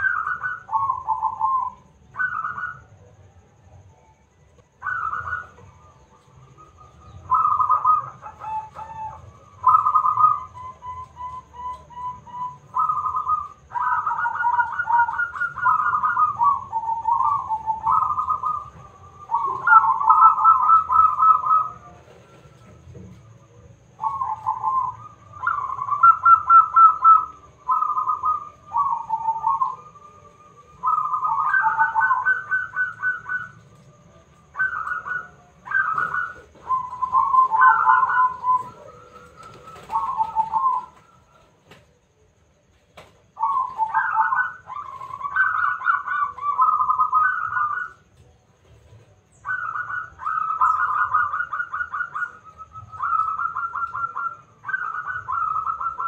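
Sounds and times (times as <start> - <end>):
dove cooing: 0.0 - 3.8, 4.7 - 42.0, 43.0 - 56.0.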